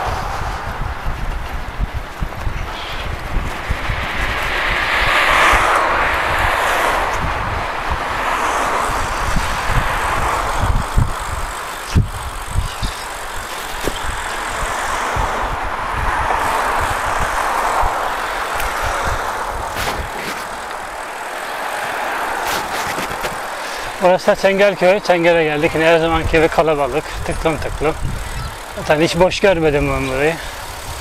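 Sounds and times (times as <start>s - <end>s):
tyres rushing on asphalt: 0.0s - 31.0s
wind buffeting microphone: 0.0s - 31.0s.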